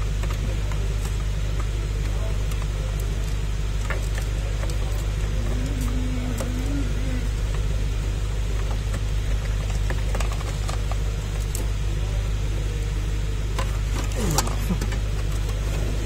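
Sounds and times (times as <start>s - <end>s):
workshop background rumble: 0.0s - 16.0s.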